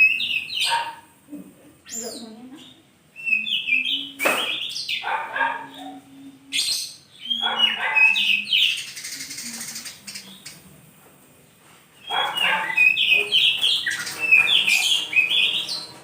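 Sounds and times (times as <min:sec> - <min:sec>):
bird chattering song: 0:00.0 - 0:01.0, 0:01.8 - 0:10.7, 0:12.0 - 0:16.0.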